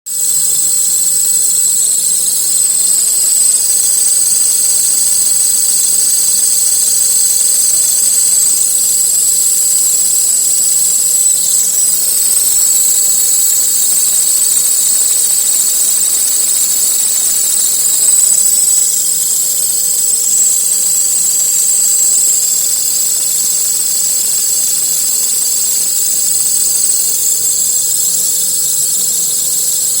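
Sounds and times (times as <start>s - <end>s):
high-pitched pulley whistle: 0.1s - 30.0s.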